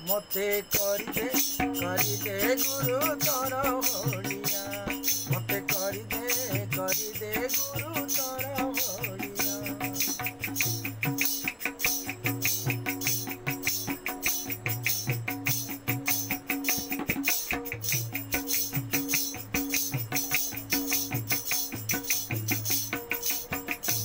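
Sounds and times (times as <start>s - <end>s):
held melody notes: 0.0s - 24.0s
jingling hand percussion: 0.0s - 24.0s.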